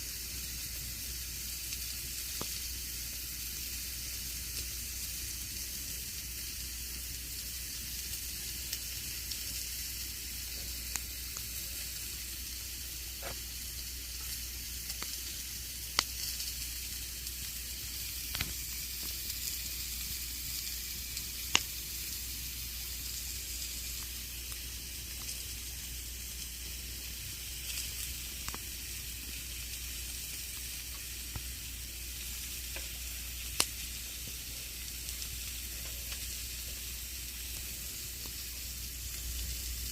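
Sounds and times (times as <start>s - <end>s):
campfire hissing: 0.0s - 39.9s
fire crackles and pops: 0.0s - 39.9s.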